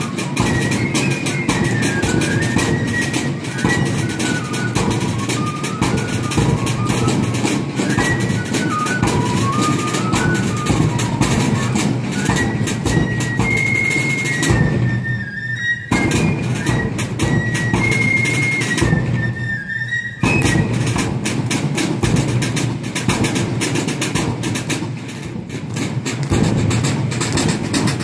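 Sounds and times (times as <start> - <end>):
side drum and bass drum beats: 0.0 - 15.0, 15.9 - 19.2, 20.2 - 28.0
shrill fifes playing a march: 0.0 - 28.0.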